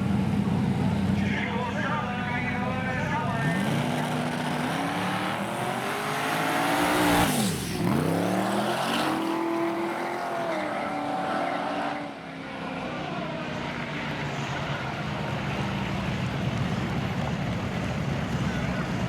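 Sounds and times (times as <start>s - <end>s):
truck engine racing: 0.0s - 19.0s.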